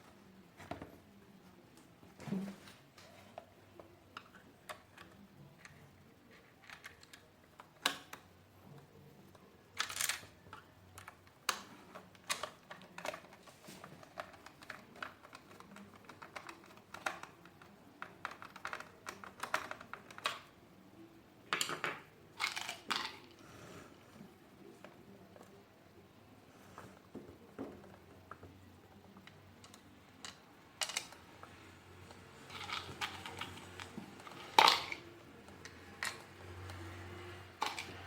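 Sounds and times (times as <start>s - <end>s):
plastic parts clicking and scraping: 1.8s - 20.6s, 21.6s - 23.4s, 26.7s - 38.0s.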